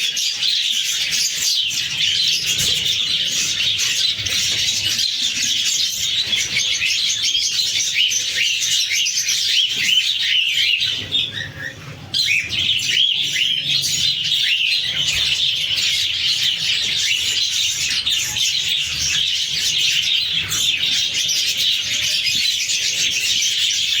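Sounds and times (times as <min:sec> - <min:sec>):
budgies chirping and chattering: 0:00.0 - 0:24.0.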